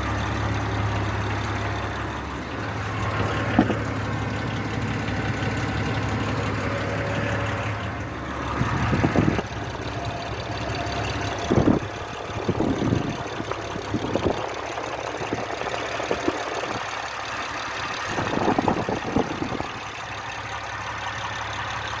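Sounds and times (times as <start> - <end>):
engine idling with knocking: 0.0 - 22.0.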